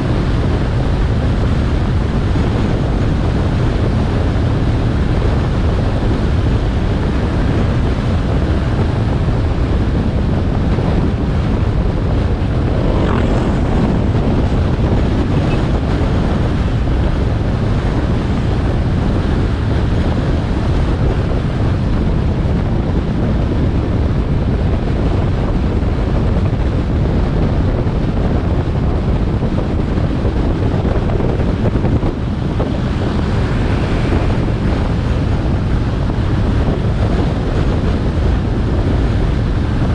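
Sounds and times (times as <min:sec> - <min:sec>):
road noise: 0:00.0 - 0:39.9
wind rumbling on microphone: 0:00.0 - 0:39.9.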